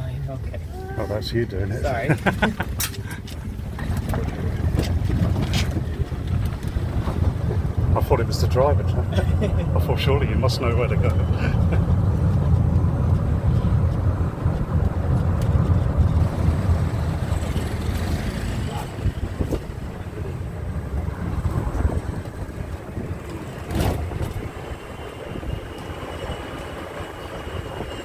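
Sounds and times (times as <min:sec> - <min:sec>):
road and wind noise: 0:00.0 - 0:28.0
electric buggy rumble: 0:01.3 - 0:28.0.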